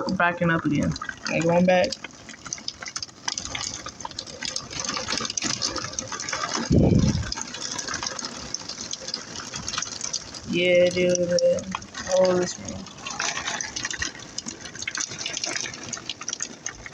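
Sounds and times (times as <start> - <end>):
heavy rain splashing: 0.0 - 16.9.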